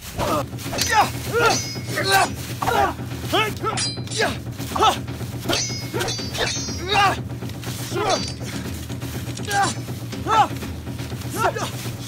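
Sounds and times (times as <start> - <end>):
low steady hum: 0.0 - 12.0
sword blades clashing: 0.2 - 11.8.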